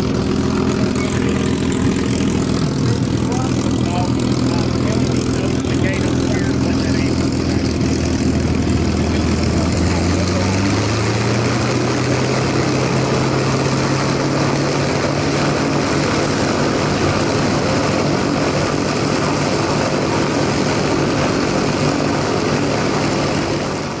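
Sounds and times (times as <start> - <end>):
propeller aircraft engine running: 0.0 - 24.0
propeller noise: 0.0 - 24.0.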